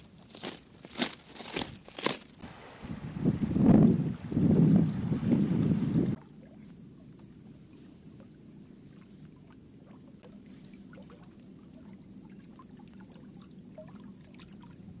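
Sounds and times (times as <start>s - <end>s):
water lapping on rocks: 0.0s - 15.0s
low steady rumble: 2.4s - 15.0s
water gurgles and trickles: 2.4s - 15.0s.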